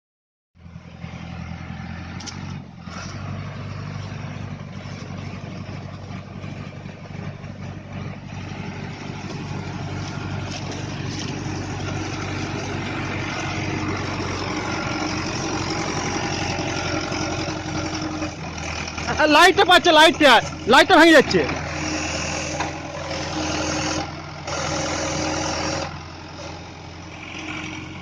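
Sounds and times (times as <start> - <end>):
tractor engine running: 0.6 - 28.0.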